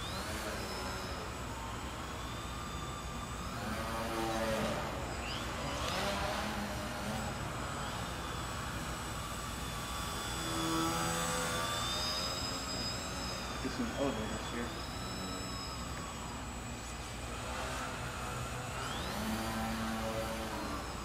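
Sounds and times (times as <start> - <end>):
model plane motor whining: 0.0 - 21.0.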